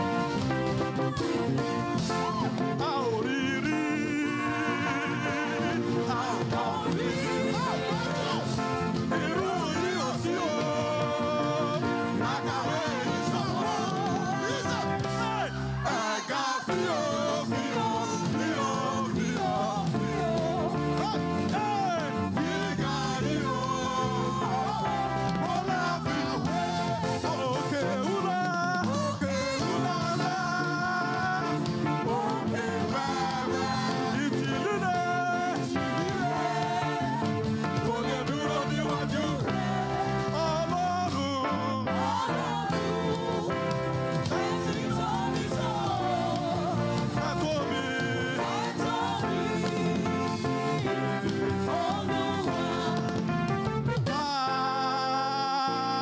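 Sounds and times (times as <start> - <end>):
church band playing: 0.0 - 56.0
voices singing: 0.0 - 56.0.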